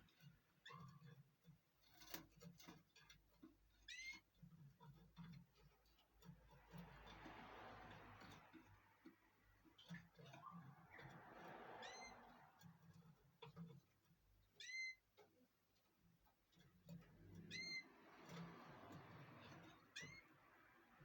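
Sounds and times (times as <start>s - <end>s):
canaries chirping: 0.0s - 21.0s.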